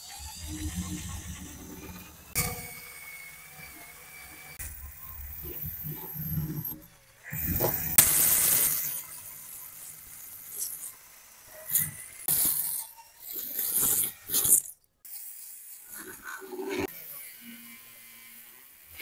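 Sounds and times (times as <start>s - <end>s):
drill sanding rusty metal: 0.0s - 19.0s
small rotary tool running: 0.0s - 19.0s.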